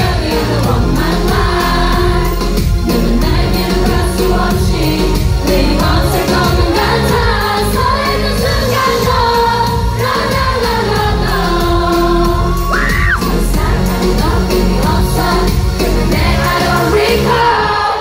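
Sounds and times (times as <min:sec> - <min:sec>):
pop backing track with beat: 0:00.0 - 0:17.4.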